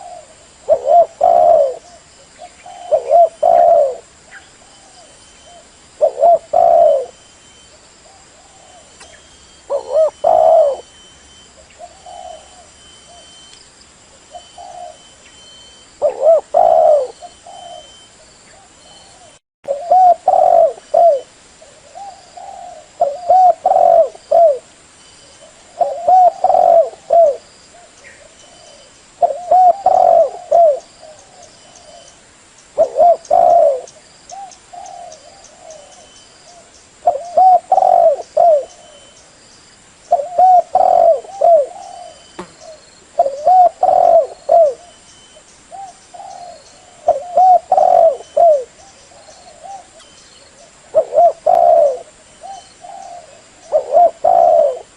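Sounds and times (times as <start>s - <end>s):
dove cooing: 0.0s - 13.5s, 14.3s - 24.7s, 25.3s - 32.1s, 32.8s - 39.2s, 40.1s - 45.0s, 45.7s - 54.9s.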